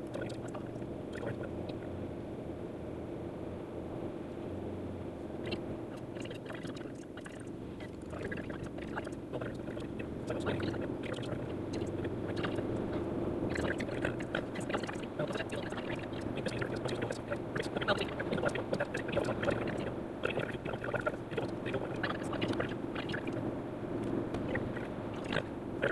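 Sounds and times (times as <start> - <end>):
rapid ticks and chatter: 0.0 - 1.9, 5.4 - 23.4, 24.4 - 25.9
engine and tyre hum: 0.0 - 25.9.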